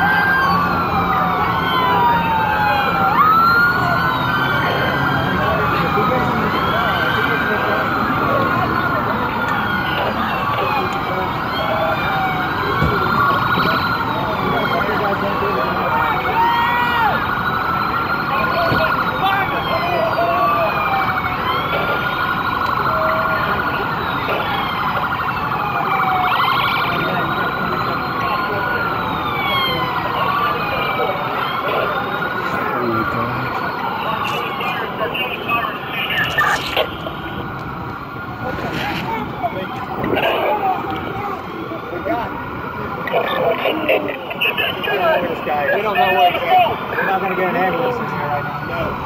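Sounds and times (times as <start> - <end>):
emergency vehicle sirens wailing: 0.0 - 49.0.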